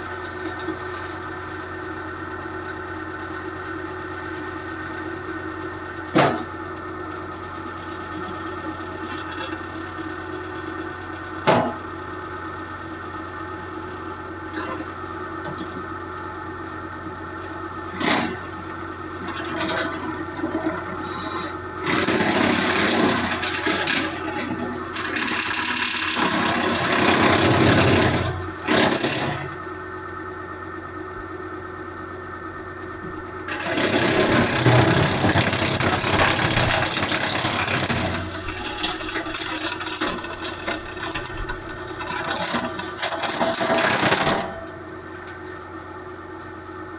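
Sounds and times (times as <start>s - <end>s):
wood chipper running: 0.0s - 46.9s.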